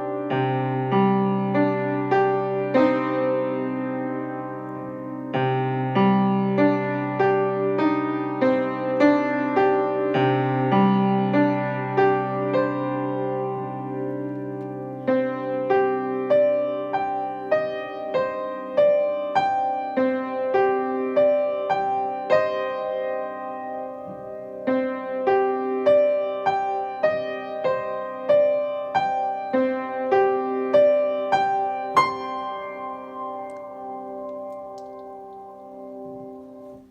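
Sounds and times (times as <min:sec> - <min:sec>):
solo piano piece: 0:00.0 - 0:36.9.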